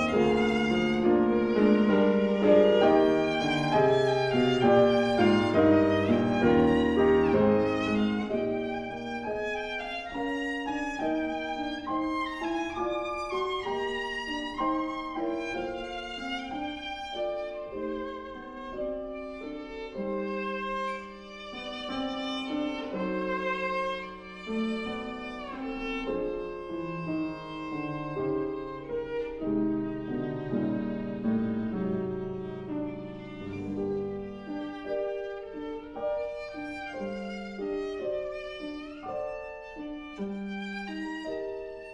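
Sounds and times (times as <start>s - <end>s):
piano accompaniment: 0.0s - 41.9s
viola playing melody: 0.0s - 41.9s.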